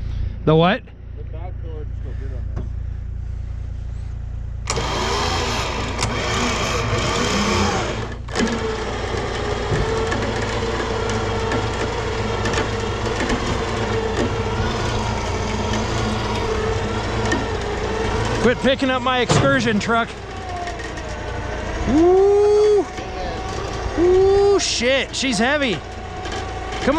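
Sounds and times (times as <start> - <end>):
vehicle engine revving: 0.0 - 26.9.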